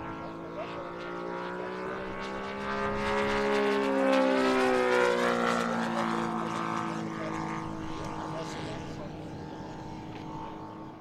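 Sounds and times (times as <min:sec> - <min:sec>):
model plane engine flying past: 0:00.0 - 0:11.0.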